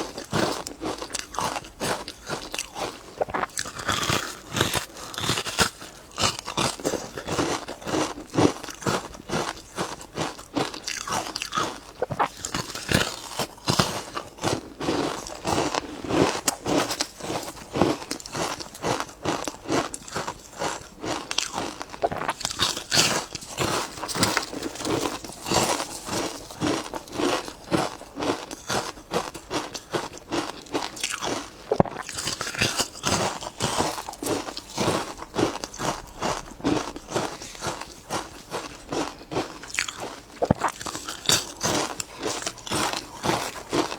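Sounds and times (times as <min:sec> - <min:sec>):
ice crunching between teeth: 0:00.0 - 0:43.9.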